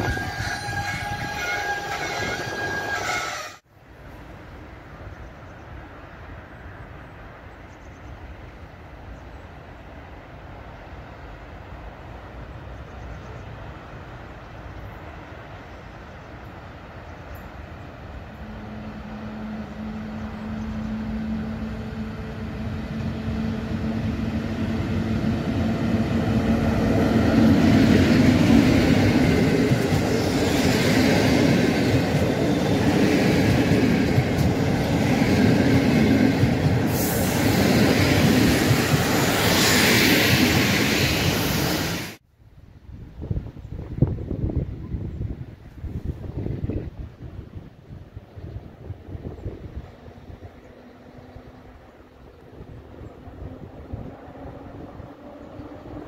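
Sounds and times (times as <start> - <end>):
train passing: 0.0 - 42.2, 43.2 - 56.0.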